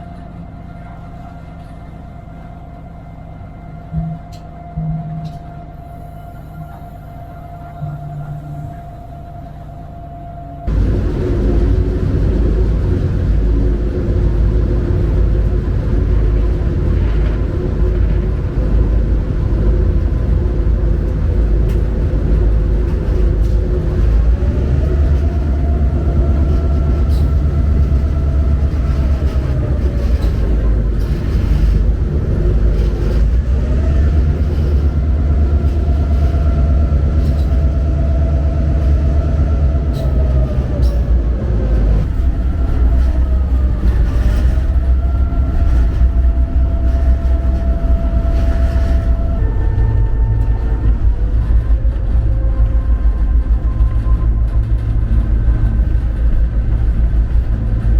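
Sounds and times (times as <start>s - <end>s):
diesel locomotive engine rumbling: 0.0s - 57.9s.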